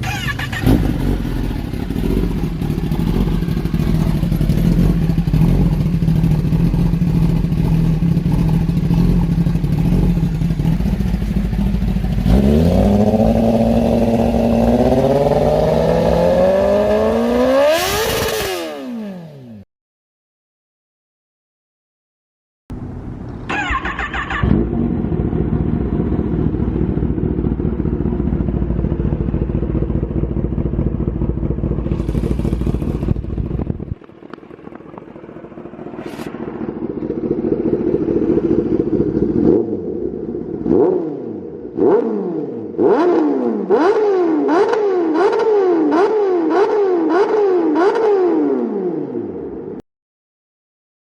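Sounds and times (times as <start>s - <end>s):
motorcycle engine revving: 0.0s - 19.6s, 23.5s - 49.6s.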